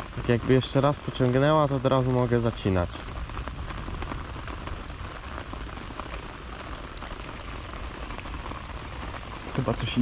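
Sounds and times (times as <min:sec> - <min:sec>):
heavy rain falling: 0:00.0 - 0:10.0
raindrops ticking close by: 0:00.0 - 0:10.0.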